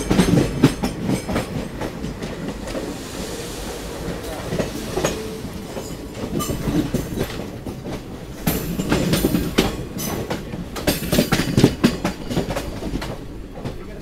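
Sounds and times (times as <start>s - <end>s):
train wheels clattering over joints: 0.0s - 14.0s.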